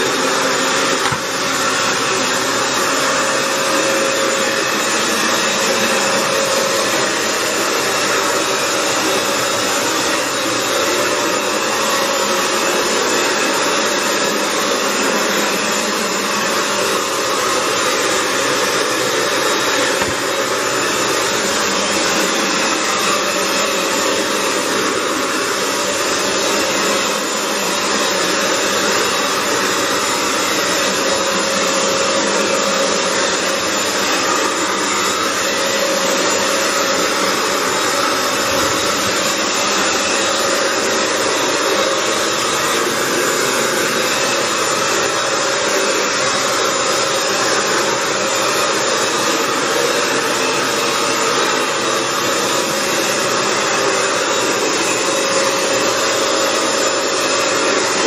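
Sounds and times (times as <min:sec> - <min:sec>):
floor cleaner suction motor running: 0:00.0 - 0:58.0.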